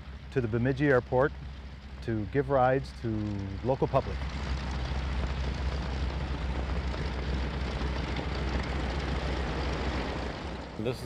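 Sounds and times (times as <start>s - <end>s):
propeller noise: 0.0s - 11.0s.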